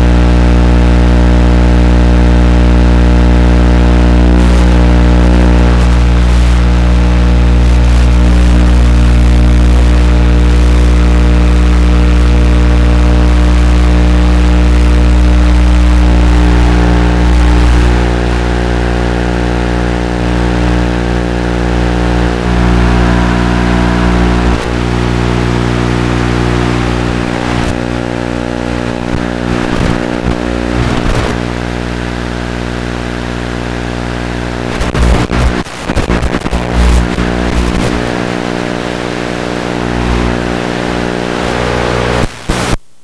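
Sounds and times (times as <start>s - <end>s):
steady electrical hum: 0.0s - 42.2s
electric motor whining: 2.2s - 10.6s, 12.9s - 33.1s, 36.4s - 42.2s.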